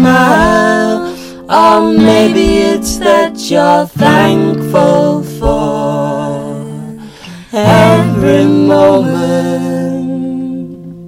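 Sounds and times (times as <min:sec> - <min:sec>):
acoustic guitar strumming: 0:00.0 - 0:11.0
man and girl singing together: 0:00.0 - 0:11.0.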